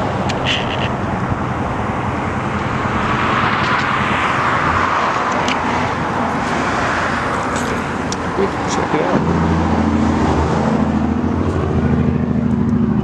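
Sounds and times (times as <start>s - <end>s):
traffic noise: 0.0s - 13.0s
vehicle passing: 0.0s - 13.0s.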